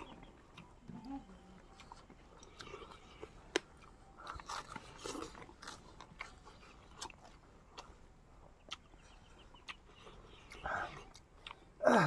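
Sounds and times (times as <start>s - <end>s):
chewing with crunches: 0.0s - 12.0s.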